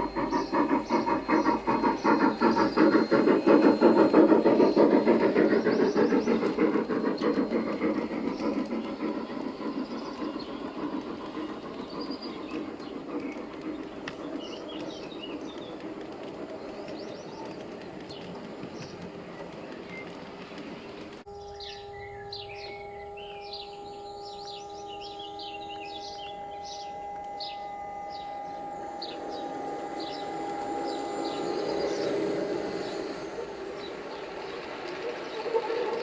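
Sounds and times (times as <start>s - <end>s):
multi-pitched hum: 0.0s - 16.1s, 21.3s - 36.0s
birds chirping: 0.0s - 36.0s
model train rumbling: 0.0s - 36.0s.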